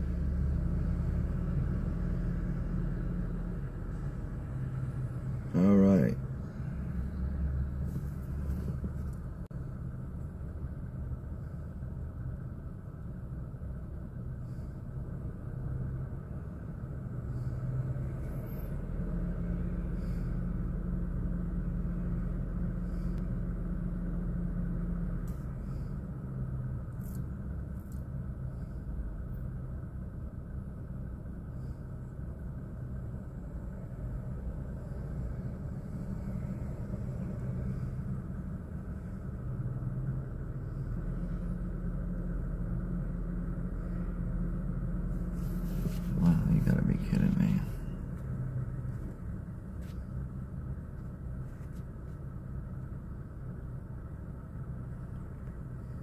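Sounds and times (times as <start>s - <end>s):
car engine idling: 0.0s - 56.0s
traffic passing outside: 0.0s - 56.0s.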